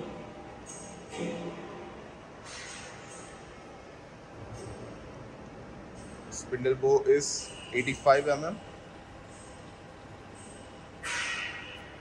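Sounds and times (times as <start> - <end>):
background rumble and hiss: 0.0 - 11.0.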